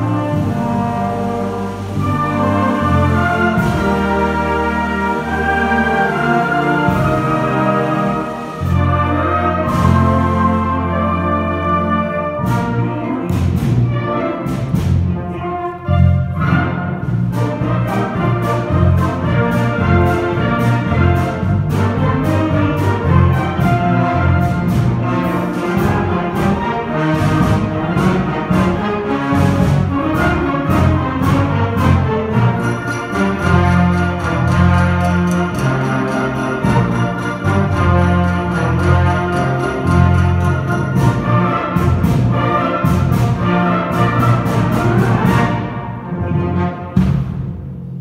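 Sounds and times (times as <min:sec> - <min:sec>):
live orchestra playing: 0:00.0 - 0:48.0.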